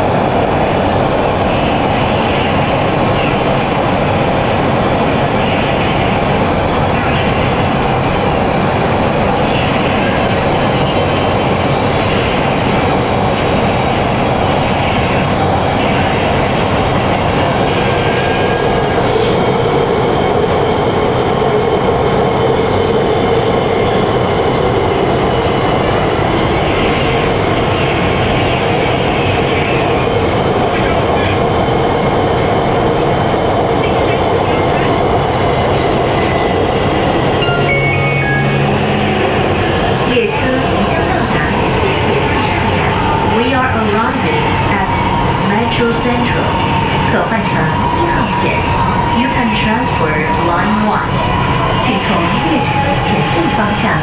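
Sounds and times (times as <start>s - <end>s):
train wheels on rail: 0.0s - 54.0s.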